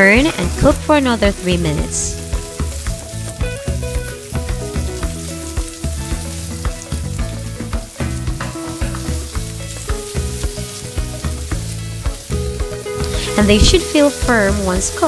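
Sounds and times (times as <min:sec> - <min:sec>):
background music: 0:00.0 - 0:15.0
patties sizzling in a pan: 0:00.0 - 0:15.0.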